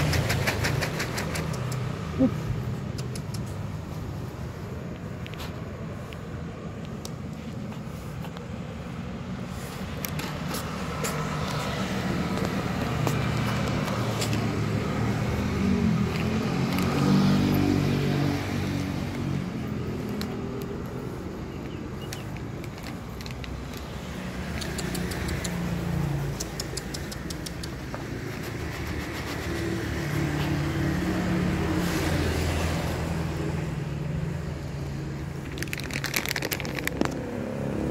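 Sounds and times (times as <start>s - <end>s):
street noise: 0.0s - 37.9s
vehicle engines passing: 0.0s - 37.9s.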